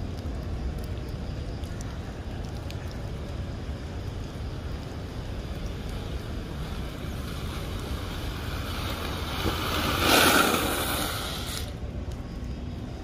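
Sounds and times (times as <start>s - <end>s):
skate wheels sliding on wet asphalt: 0.0s - 13.0s.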